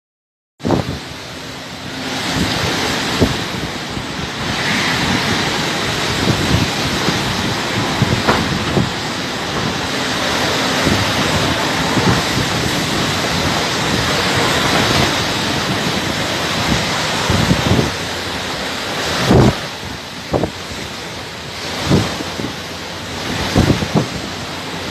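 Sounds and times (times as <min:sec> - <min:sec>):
hurricane winds blowing: 0:00.6 - 0:24.9
wind buffeting microphone: 0:00.6 - 0:24.9.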